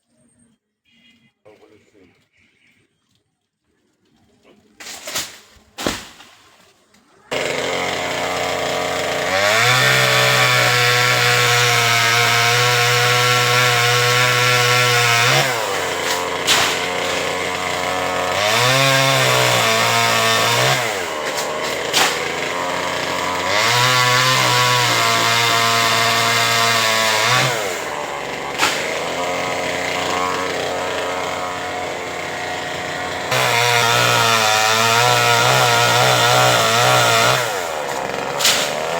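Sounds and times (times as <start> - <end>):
chainsaw cutting branch: 4.8 - 6.4, 7.3 - 38.9.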